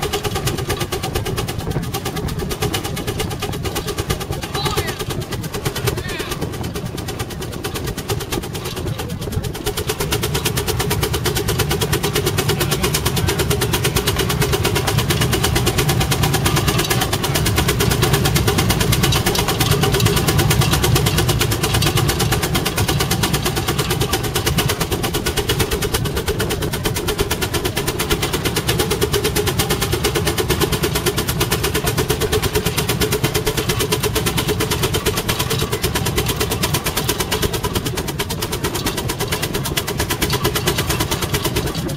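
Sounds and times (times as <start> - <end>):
steam engine exhaust chuffing: 0.0 - 41.9.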